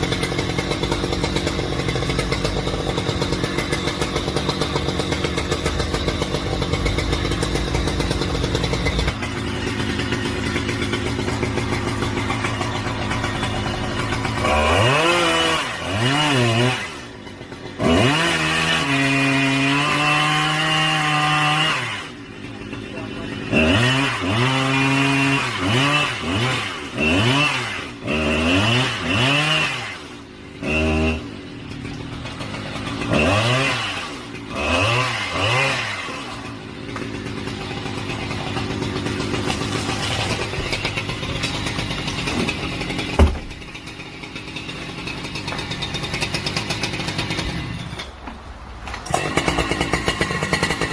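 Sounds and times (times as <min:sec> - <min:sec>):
chainsaw engine revving: 0:00.0 - 0:48.2, 0:48.9 - 0:50.9.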